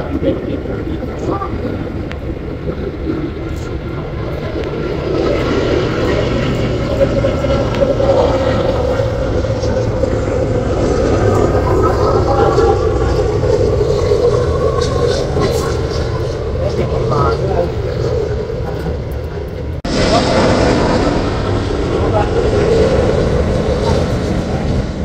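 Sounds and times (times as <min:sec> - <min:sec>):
jet engines rushing and whining: 0:00.0 - 0:25.0.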